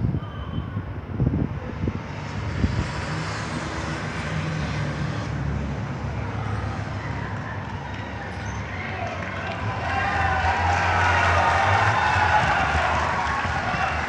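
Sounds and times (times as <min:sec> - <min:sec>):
engines droning: 0:00.0 - 0:14.0.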